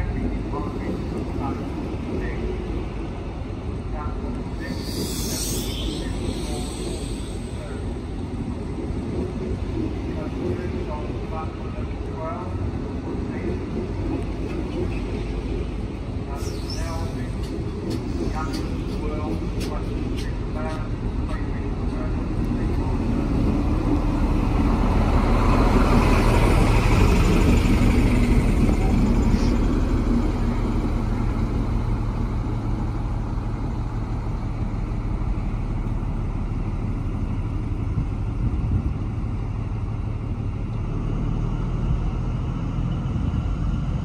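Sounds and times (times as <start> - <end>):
diesel train engine drone: 0.0 - 44.0
train passing rush: 0.0 - 44.0.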